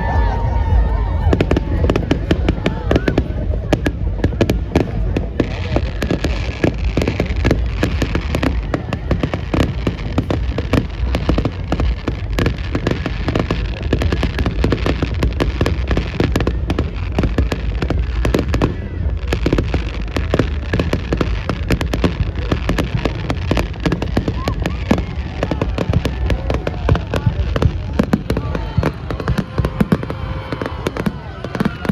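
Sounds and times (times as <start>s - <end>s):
bonfire crackling and popping: 0.0s - 31.9s
low rumble of fire: 0.0s - 31.9s.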